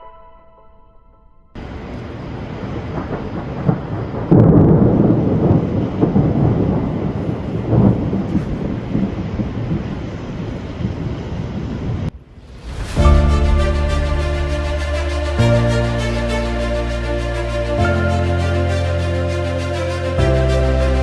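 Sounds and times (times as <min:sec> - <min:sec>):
thunder rumbling: 0:01.6 - 0:21.0.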